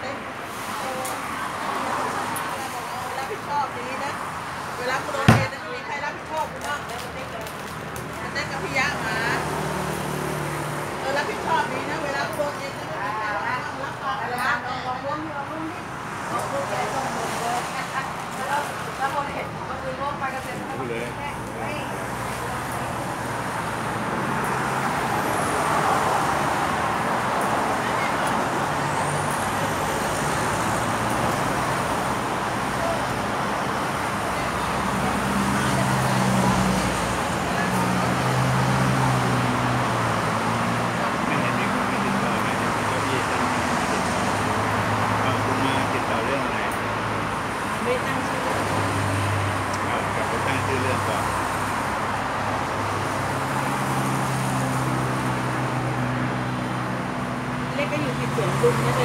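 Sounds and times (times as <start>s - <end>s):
road traffic noise: 0.0s - 59.0s
vehicle engine hum: 0.0s - 59.0s.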